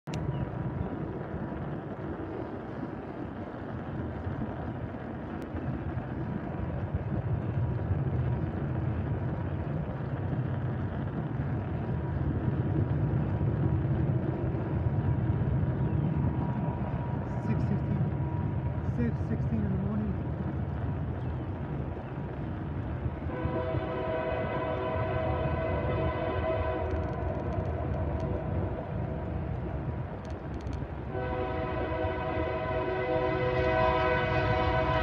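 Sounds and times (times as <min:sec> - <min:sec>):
diesel locomotive engine rumble: 0:00.0 - 0:35.0.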